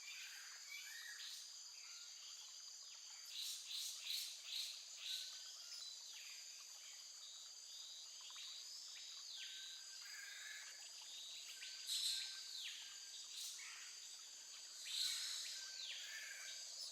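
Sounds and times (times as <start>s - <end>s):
high insect chorus: 0.0s - 16.9s.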